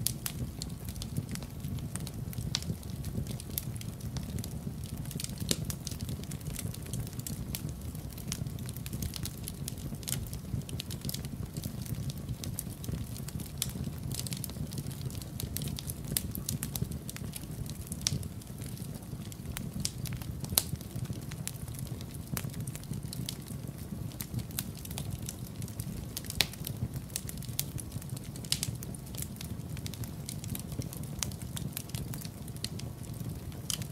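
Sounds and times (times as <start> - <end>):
fire pops and snaps: 0.0 - 33.9
wood fire crackling: 0.0 - 33.9.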